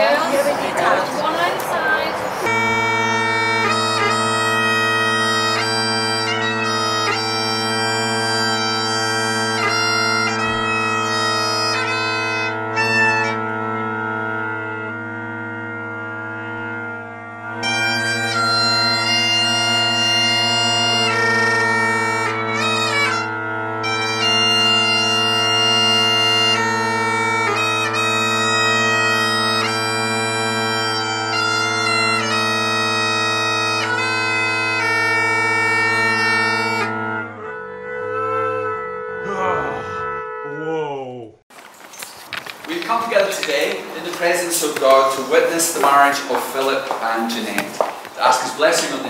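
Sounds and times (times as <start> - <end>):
bagpipe drones: 0.0 - 40.8, 42.2 - 49.0
bagpipe chanter melody: 2.4 - 40.8, 42.3 - 49.0.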